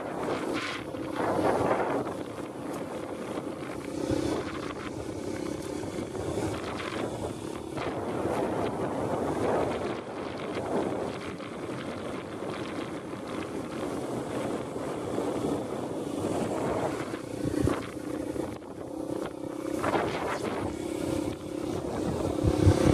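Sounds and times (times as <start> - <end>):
dirt bike engine running: 0.0 - 22.9
wind buffeting microphone: 0.0 - 22.9.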